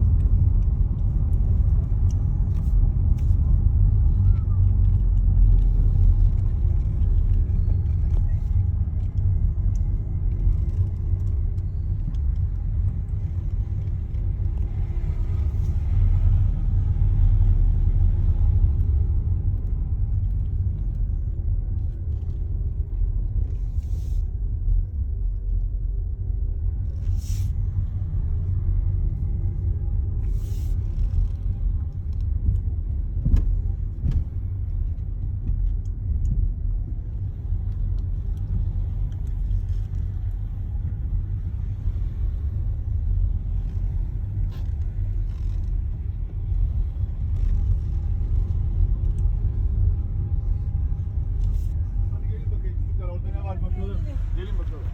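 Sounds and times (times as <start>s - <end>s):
road and tyre rumble: 0.0s - 54.9s.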